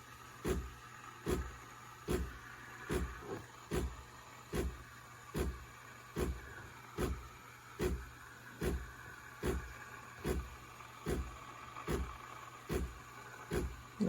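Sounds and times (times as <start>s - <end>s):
espresso machine low throb: 0.0s - 14.0s.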